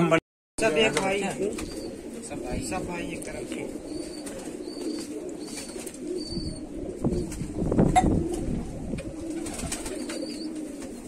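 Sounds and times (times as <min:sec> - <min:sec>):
pigeons cooing: 0:00.6 - 0:11.0
pigeons scuffling: 0:00.7 - 0:06.2, 0:06.9 - 0:11.0.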